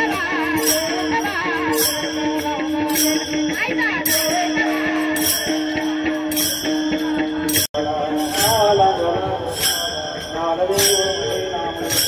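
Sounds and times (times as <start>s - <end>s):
hand cymbals clashing: 0.0s - 12.0s
voices singing: 0.0s - 12.0s.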